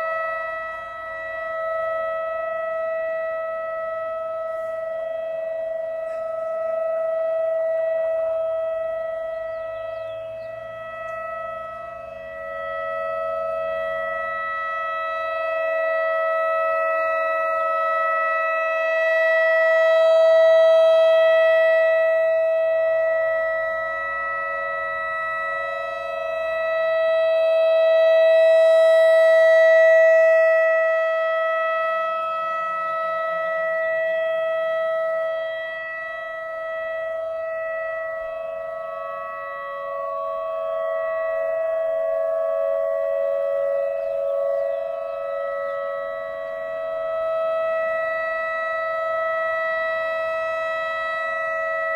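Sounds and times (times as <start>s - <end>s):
warning siren steady tone: 0.0s - 51.9s.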